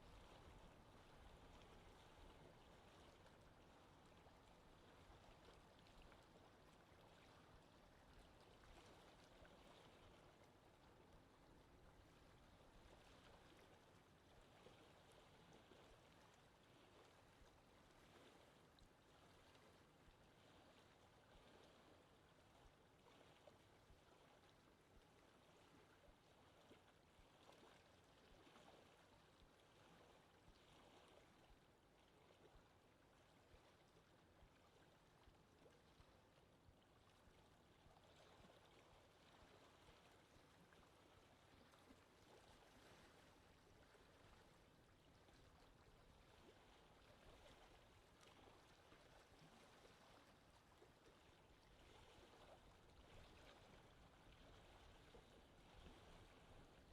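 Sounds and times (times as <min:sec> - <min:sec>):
small water splashes: 0:00.0 - 0:56.9
water lapping gently: 0:00.0 - 0:56.9.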